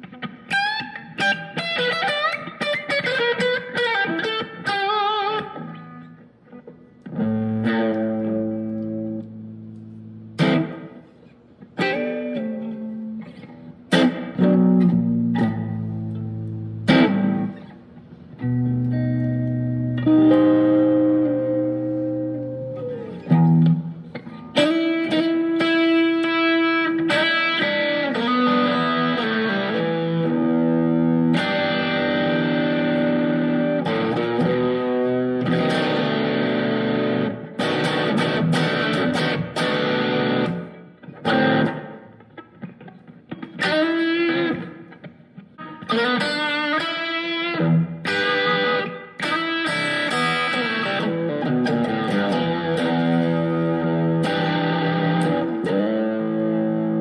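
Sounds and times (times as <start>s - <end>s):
electric guitar chords and phrases: 0.0s - 57.0s.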